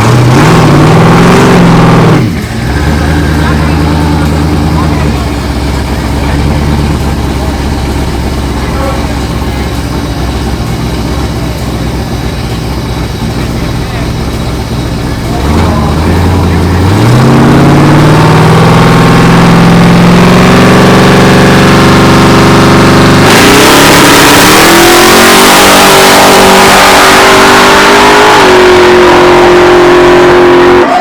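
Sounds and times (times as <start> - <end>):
drag car engine accelerating: 0.0 - 31.0.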